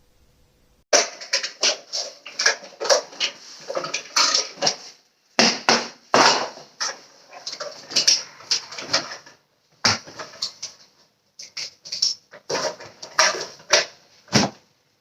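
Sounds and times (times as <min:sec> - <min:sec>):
clattering knocks and scrapes: 0:01.0 - 0:05.0, 0:05.7 - 0:14.6.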